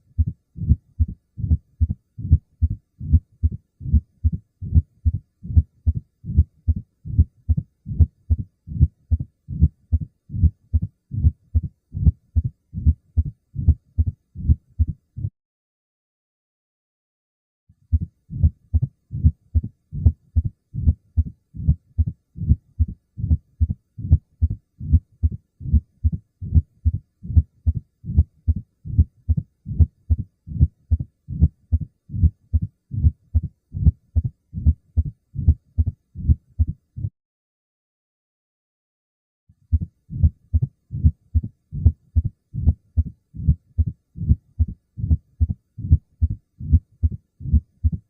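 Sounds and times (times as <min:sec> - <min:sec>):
low heartbeats with murmur: 0:00.1 - 0:15.3, 0:17.9 - 0:37.1, 0:39.7 - 0:48.0.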